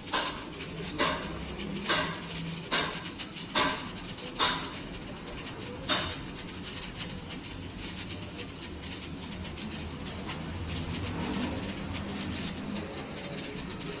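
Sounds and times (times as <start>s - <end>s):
arc welding crackling: 0.0s - 14.0s.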